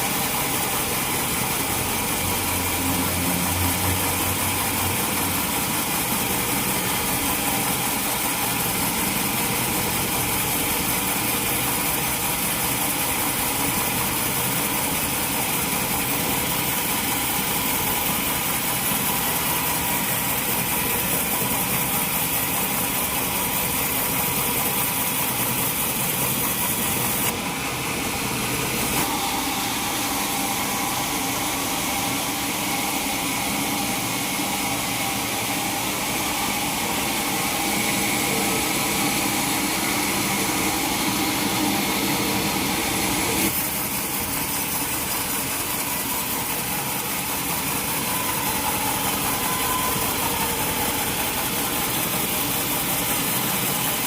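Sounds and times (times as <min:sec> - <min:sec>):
sawmill saw machinery drone: 0:00.0 - 0:54.0
steady saw whine: 0:00.0 - 0:54.0.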